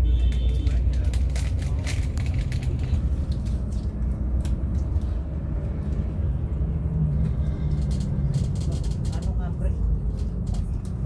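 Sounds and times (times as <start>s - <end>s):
road rumble: 0.0s - 11.0s
coach engine drone: 1.1s - 11.0s.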